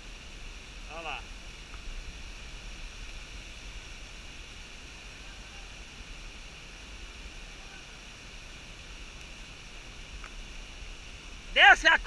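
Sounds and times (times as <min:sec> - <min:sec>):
waterfall rushing: 0:00.3 - 0:12.0.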